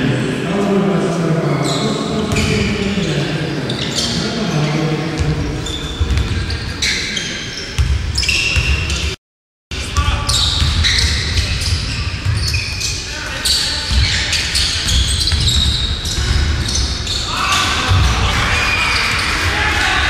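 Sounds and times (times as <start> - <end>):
voices in a hall: 0.0 - 20.0
sneakers squeaking on court: 1.5 - 9.2, 9.9 - 19.5.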